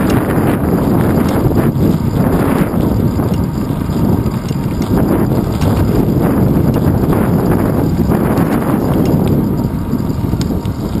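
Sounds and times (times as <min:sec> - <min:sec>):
bicycle rattling: 0:00.0 - 0:11.0
low road rumble: 0:00.0 - 0:11.0
wind buffeting microphone: 0:00.0 - 0:11.0.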